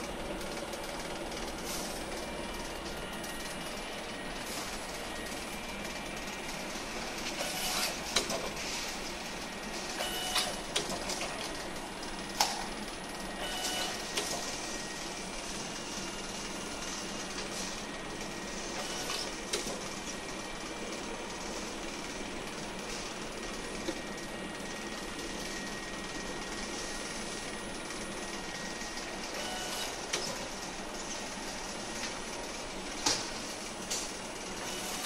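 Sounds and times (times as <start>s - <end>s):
mechanical hum: 0.0s - 35.0s.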